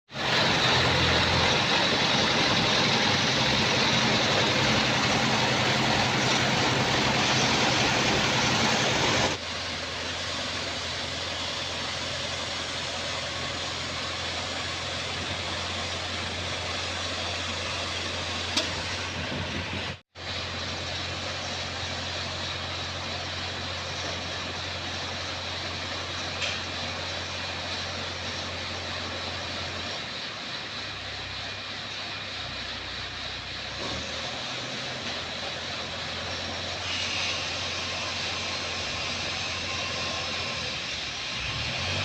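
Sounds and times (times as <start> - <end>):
heavy engine humming: 0.1 - 42.0.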